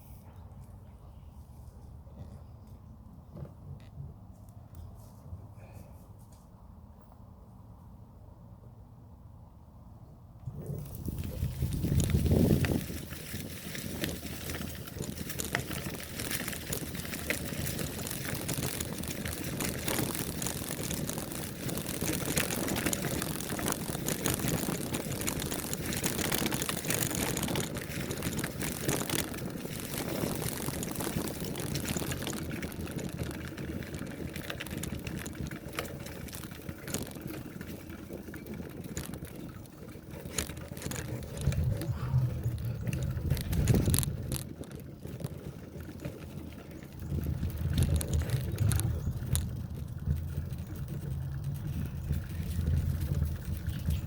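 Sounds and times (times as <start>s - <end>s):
bicycle tyres on dirt: 10.4s - 54.0s
bike clicks and rattles: 10.4s - 54.0s.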